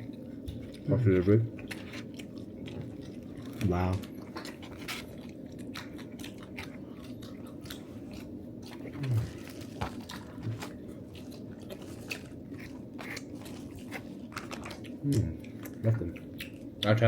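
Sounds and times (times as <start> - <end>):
low room hum: 0.0 - 17.0
person chewing food: 0.0 - 17.0.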